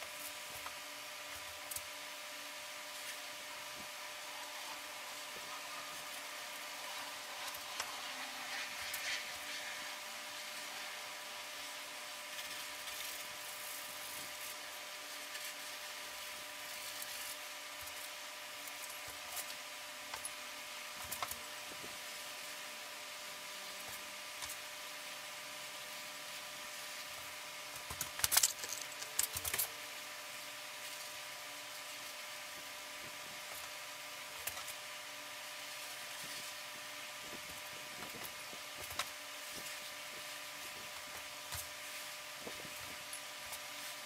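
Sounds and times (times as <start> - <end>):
electrical hum with hiss: 0.0 - 44.0.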